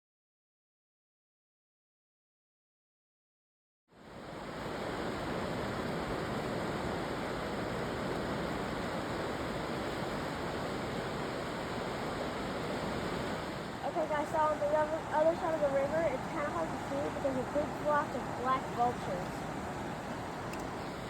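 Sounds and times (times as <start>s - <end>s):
river water rushing: 4.0s - 21.0s.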